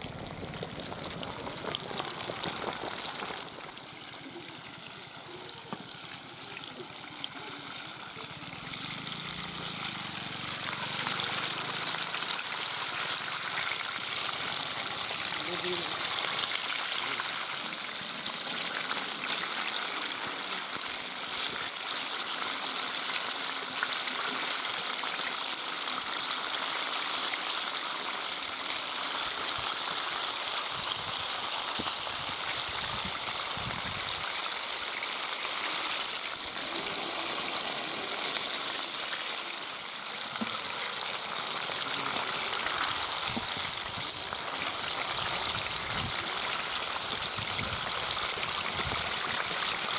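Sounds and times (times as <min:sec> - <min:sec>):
chicken deep-frying in oil: 0:00.0 - 0:49.9.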